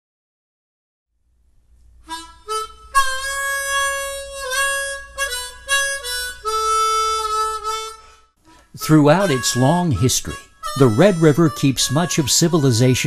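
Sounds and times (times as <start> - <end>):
harmonica music: 2.0 - 13.0.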